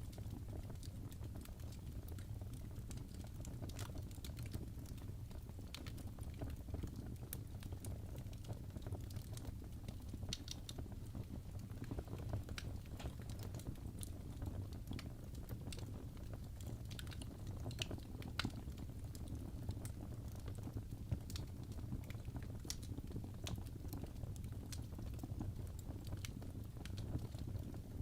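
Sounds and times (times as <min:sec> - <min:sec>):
logs crackling and popping: 0:00.0 - 0:28.0
wood fire rumbling: 0:00.0 - 0:28.0.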